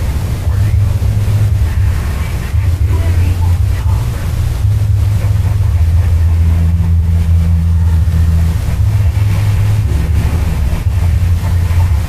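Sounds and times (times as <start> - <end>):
low-pitched engine drone: 0.0 - 12.0.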